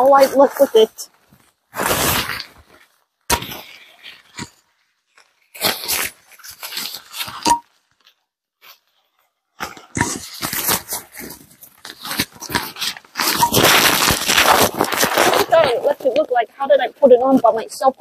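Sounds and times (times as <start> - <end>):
nylon fabric rustling and crinkling: 0.0 - 17.9.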